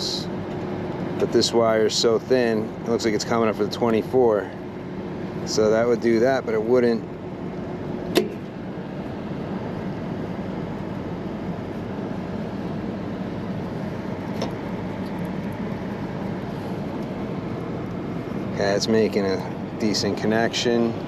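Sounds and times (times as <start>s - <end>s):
air conditioning unit humming: 0.0s - 21.0s.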